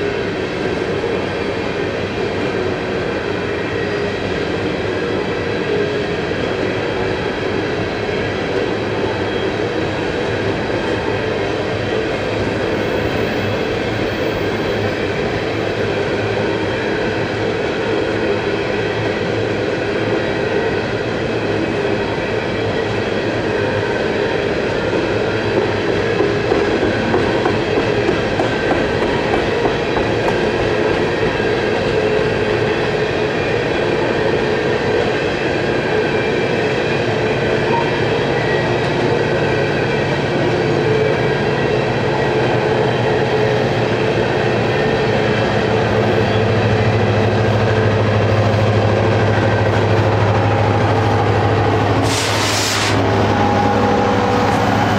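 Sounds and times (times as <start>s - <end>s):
train cars rolling on rails: 0.0s - 54.9s.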